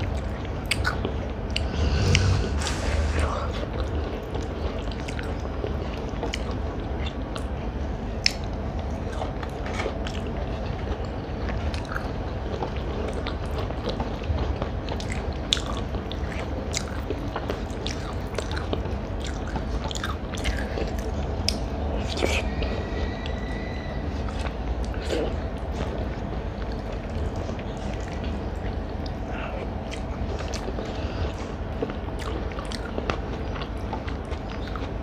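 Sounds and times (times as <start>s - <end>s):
person chewing food: 0.0s - 7.6s, 8.2s - 23.3s, 24.2s - 35.0s
steady low hum: 0.0s - 35.0s.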